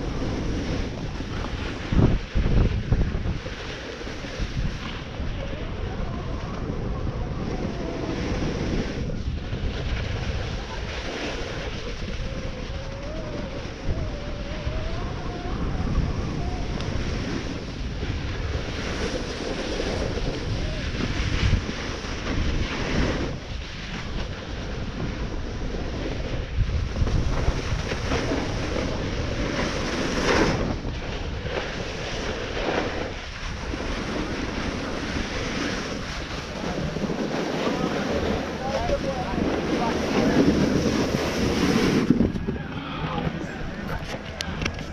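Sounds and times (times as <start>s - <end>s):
snowboard scraping across snow: 0.0s - 44.9s
wind over microphone: 0.0s - 44.9s.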